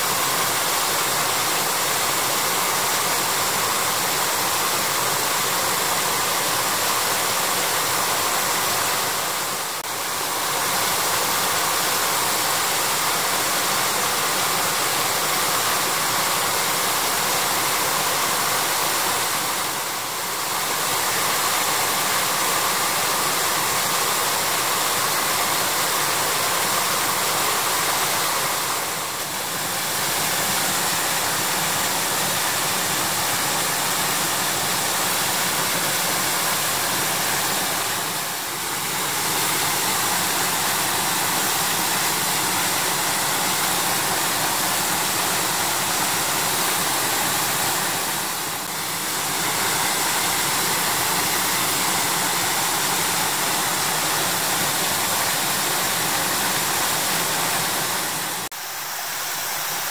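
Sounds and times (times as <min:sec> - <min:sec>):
waterfall roaring and splashing: 0:00.0 - 0:59.9.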